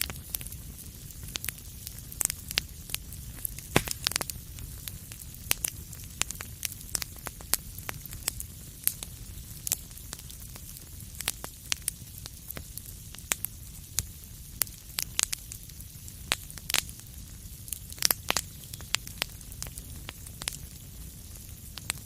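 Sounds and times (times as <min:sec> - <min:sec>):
low rumble of flames: 0:00.0 - 0:22.0
wood fire popping and snapping: 0:00.0 - 0:22.0.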